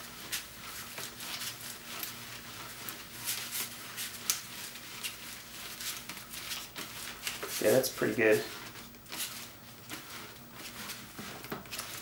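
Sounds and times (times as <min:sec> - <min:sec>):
hand rubbing damp paper: 0:00.0 - 0:12.0.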